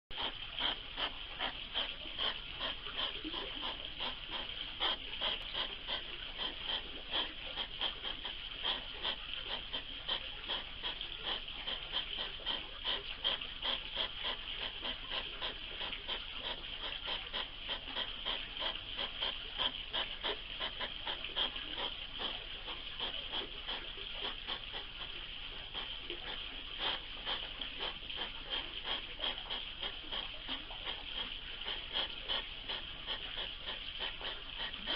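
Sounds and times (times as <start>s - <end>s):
hedgehogs puffing: 0.1s - 34.9s.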